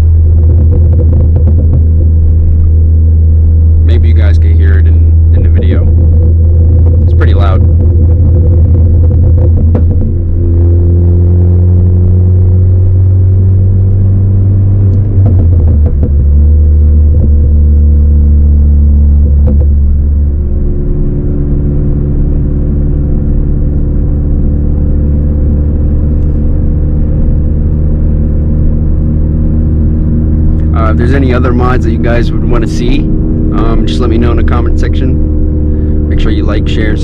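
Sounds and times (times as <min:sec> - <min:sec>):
car engine droning: 0:00.0 - 0:37.0
exhaust crackles: 0:00.0 - 0:37.0.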